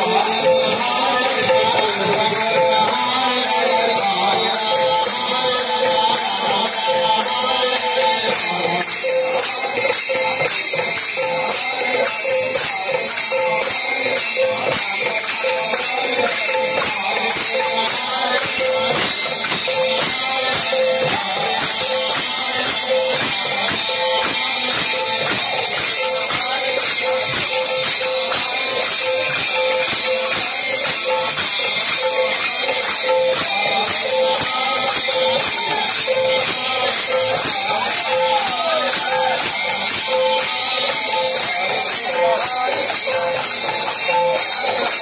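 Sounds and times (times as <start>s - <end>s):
jingling metal hand percussion: 0.0s - 45.0s
drum beat: 8.2s - 45.0s.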